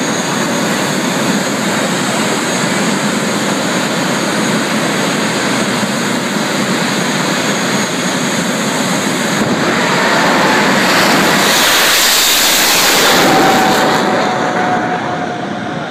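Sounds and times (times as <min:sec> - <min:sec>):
jet engine spooling up: 0:00.0 - 0:15.9.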